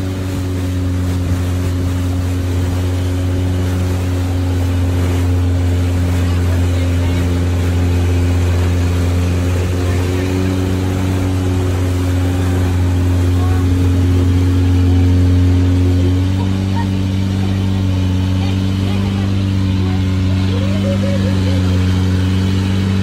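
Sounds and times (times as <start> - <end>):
motorboat engine droning: 0.0 - 23.0
water splashing along hull: 0.0 - 23.0.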